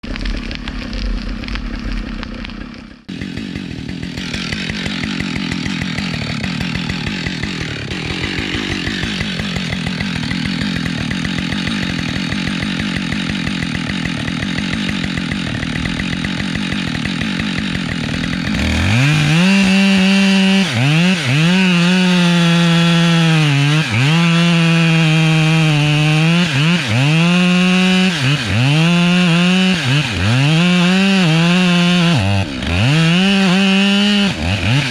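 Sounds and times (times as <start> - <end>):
chainsaw idling and revving: 3.0 - 34.9.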